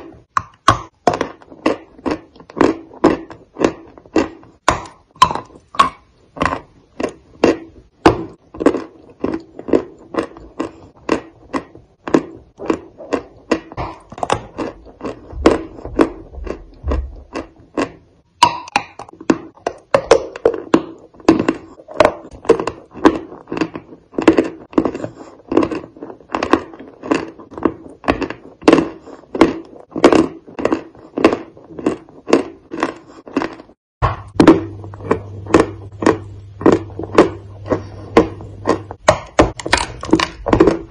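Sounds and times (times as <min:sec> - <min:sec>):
chewing soft cookies: 0:00.0 - 0:40.9.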